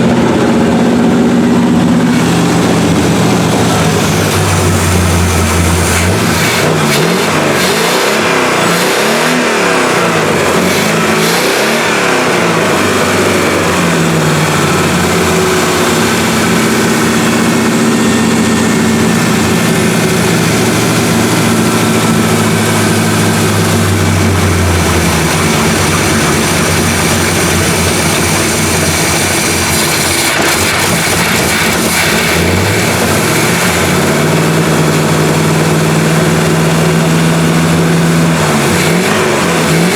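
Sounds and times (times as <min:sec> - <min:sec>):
pickup truck engine revving: 0:00.0 - 0:39.9.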